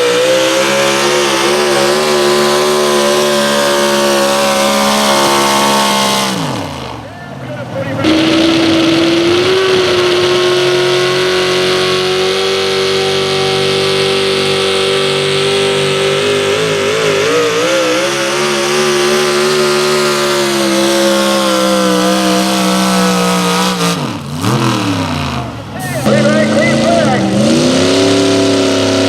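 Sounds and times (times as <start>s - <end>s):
engine running at high revs: 0.0s - 29.0s.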